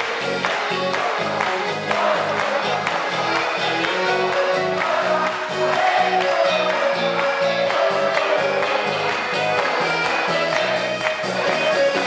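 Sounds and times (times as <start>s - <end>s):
bass notes on steady beat: 0.0s - 12.0s
live rock band playing: 0.0s - 12.0s.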